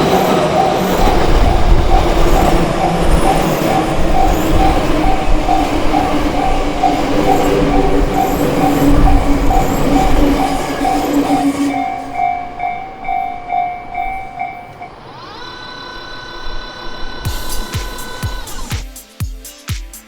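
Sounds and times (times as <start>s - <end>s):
level crossing bells ringing: 0.0s - 18.6s
train passing: 0.0s - 18.7s
steady music tones: 0.0s - 20.0s.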